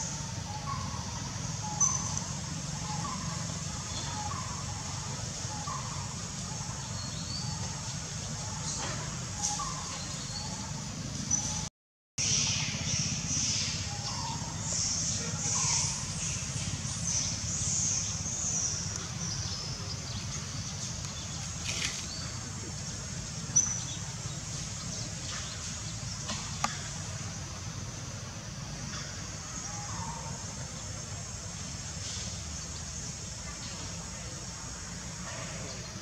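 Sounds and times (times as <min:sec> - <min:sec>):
high-pitched wildlife chorus: 0:00.0 - 0:36.0.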